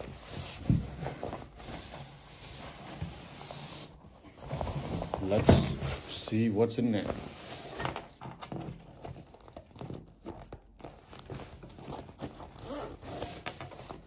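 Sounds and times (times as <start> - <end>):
nylon bag rustling: 0.0 - 14.0.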